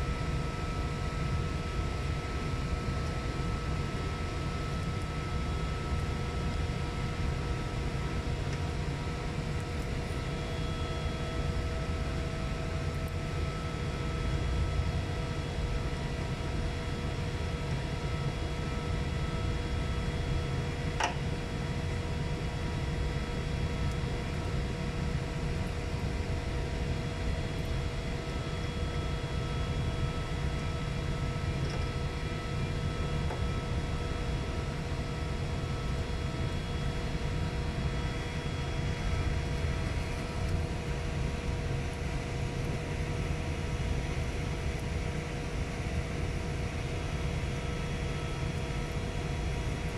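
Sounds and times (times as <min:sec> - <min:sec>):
faint whining tones: 0:00.1 - 0:49.9.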